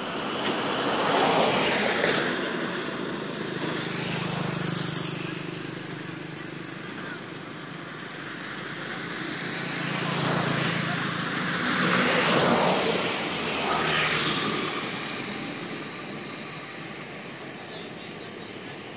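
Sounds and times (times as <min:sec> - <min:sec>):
road traffic passing: 0:00.0 - 0:18.9.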